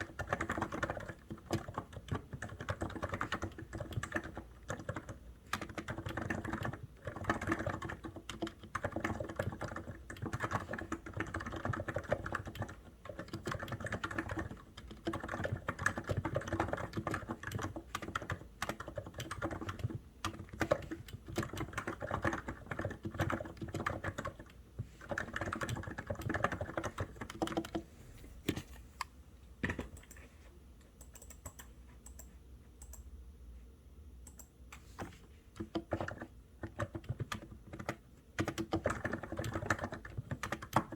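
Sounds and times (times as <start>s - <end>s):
keyboard typing: 0.0s - 27.9s, 28.5s - 33.1s, 34.2s - 40.9s.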